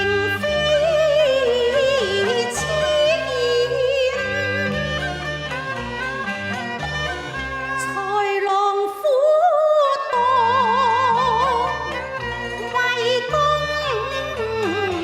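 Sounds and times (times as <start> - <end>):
opera singing with wide vibrato: 0.0 - 5.0, 7.8 - 15.0.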